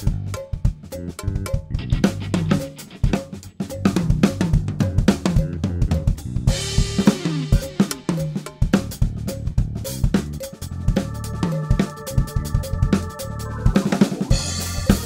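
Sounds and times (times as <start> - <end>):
backing track: 0.0 - 15.0
drum kit groove: 0.0 - 15.0.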